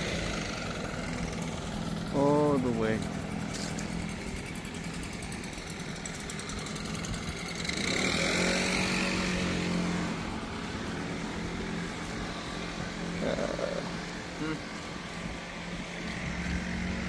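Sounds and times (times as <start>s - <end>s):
engine running with whine: 0.0s - 17.0s.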